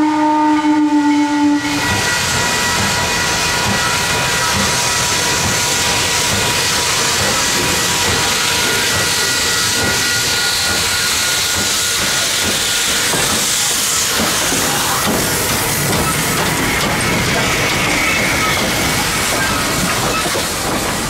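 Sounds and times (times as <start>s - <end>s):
steam locomotive chuffing: 1.0s - 21.0s
steam hissing: 1.5s - 21.0s.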